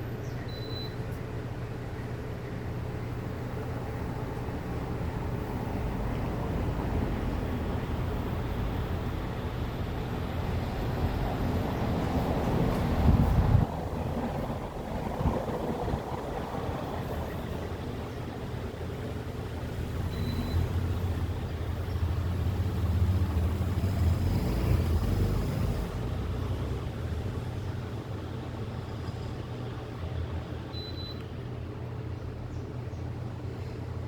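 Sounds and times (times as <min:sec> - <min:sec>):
ceiling fan humming: 0:00.0 - 0:34.0.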